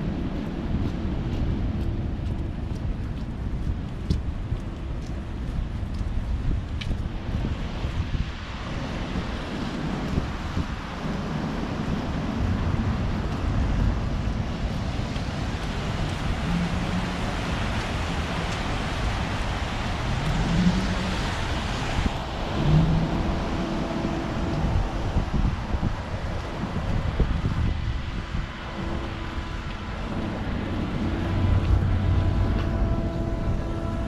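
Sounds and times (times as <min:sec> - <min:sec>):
city street traffic hum: 0:00.0 - 0:34.0
passing vehicles: 0:00.0 - 0:34.0
wind rumbling on microphone: 0:00.0 - 0:34.0.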